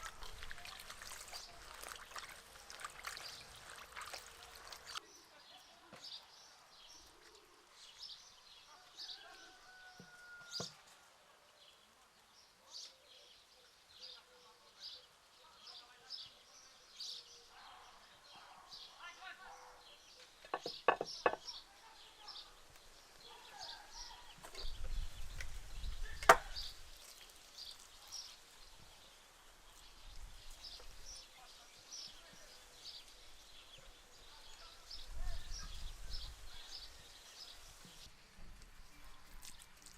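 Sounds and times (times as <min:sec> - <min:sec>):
faint birds chirping: 0:00.0 - 0:39.6.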